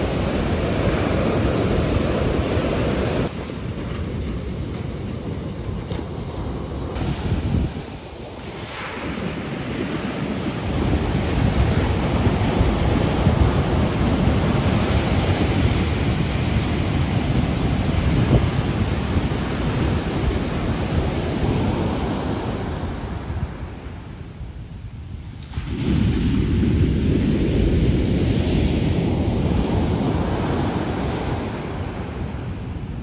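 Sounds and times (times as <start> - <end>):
waves breaking on beach: 0.0 - 33.0
wind buffeting microphone: 0.0 - 33.0.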